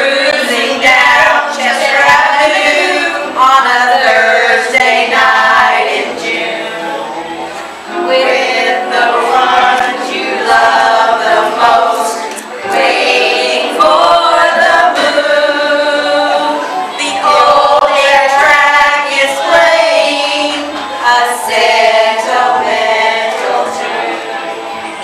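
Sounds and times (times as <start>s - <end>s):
women singing together: 0.0s - 25.0s.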